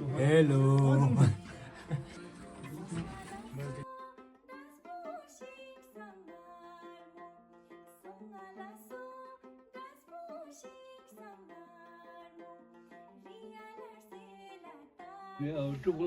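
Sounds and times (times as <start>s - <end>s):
plucked string background music: 0.0s - 16.0s.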